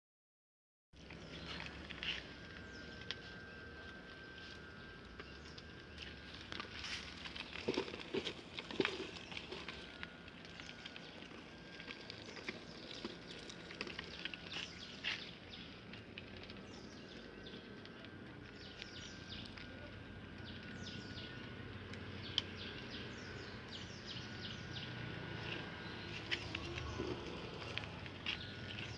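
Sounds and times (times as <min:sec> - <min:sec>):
faint steady high tone: 0:01.1 - 0:07.4, 0:08.8 - 0:28.9.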